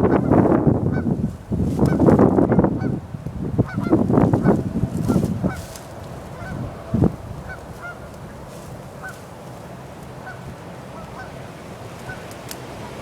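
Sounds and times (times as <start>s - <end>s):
birds calling: 0.0s - 13.0s
outdoor background noise: 0.0s - 13.0s.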